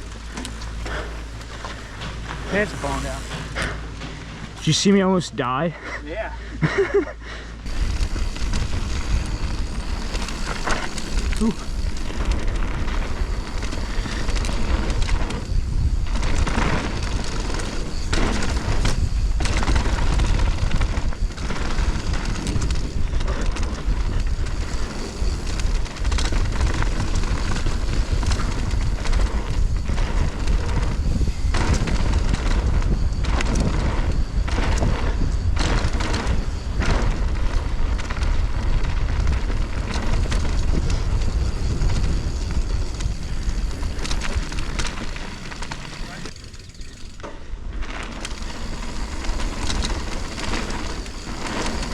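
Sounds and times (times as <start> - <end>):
bike tyre and chain rattle: 0.0 - 51.9
wind rushing over microphone: 7.5 - 51.9.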